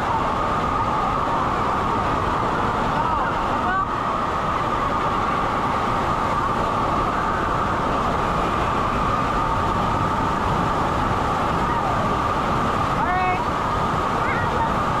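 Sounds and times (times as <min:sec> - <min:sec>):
constant hum: 0:00.0 - 0:15.0
turbulent pool water roaring: 0:00.0 - 0:15.0.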